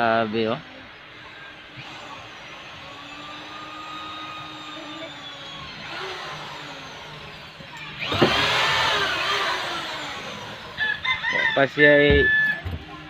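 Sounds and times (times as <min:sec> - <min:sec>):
motor engine running: 0:00.0 - 0:11.4.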